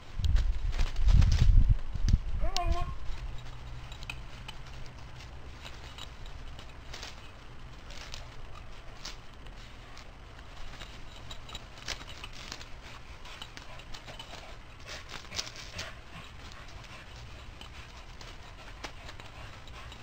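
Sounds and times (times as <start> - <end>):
dog paws on grass: 0.0 - 20.0
low steady rumble: 0.0 - 20.0.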